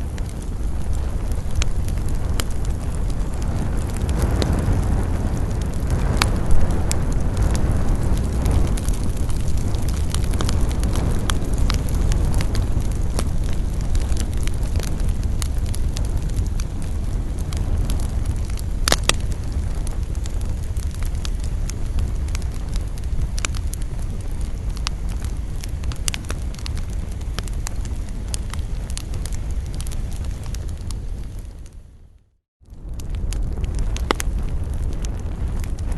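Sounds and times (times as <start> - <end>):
campfire rumble: 0.0 - 35.9
wood crackling and popping: 0.0 - 35.9.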